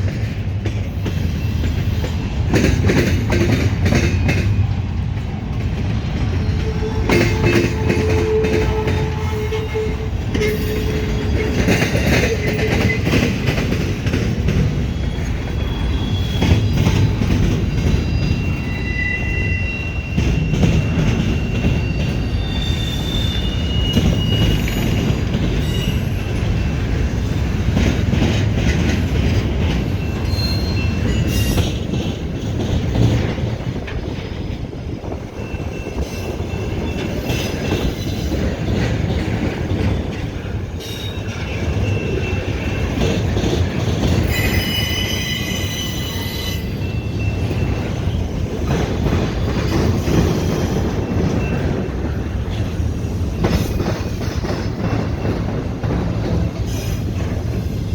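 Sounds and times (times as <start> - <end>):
freight train rumble and clatter: 0.0 - 57.9
train wheels squealing: 0.2 - 5.0, 5.8 - 57.9.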